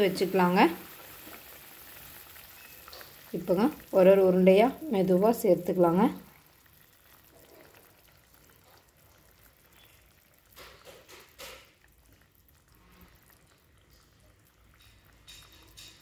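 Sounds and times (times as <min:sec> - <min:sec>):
gravy bubbling: 0:00.0 - 0:16.0
soft wet plops and drips: 0:00.0 - 0:16.0.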